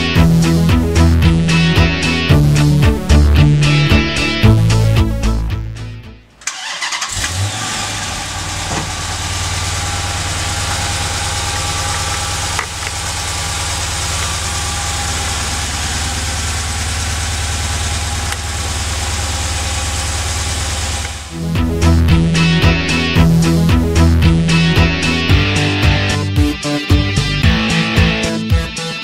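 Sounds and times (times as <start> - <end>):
car engine starting and idling: 0.2 - 26.2.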